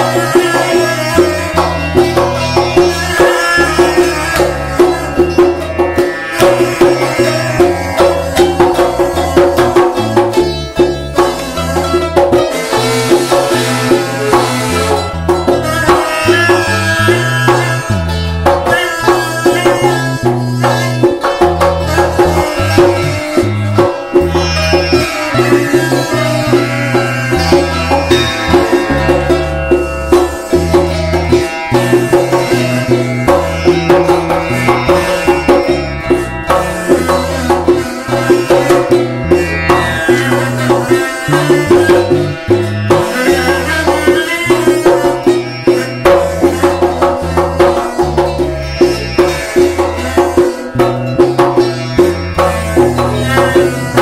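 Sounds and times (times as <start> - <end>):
hand percussion drum beat: 0.0 - 54.0
plucked string instruments: 0.0 - 54.0
reed pipe drone: 0.0 - 54.0.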